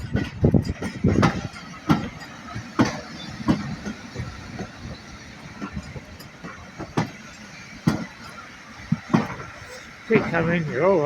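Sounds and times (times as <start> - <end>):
train rolling slowly: 0.0 - 11.0
train wheels clanking: 0.0 - 11.0.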